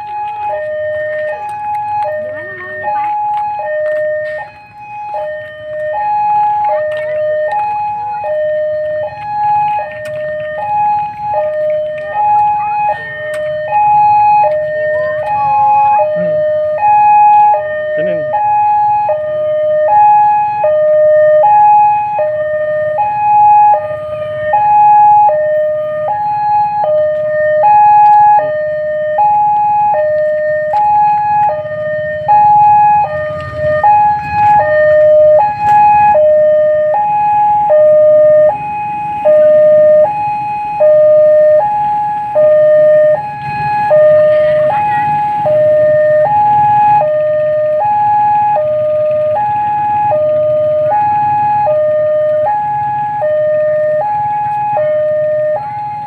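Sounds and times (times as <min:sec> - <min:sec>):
two-tone crossing alarm: 0:00.0 - 0:56.0.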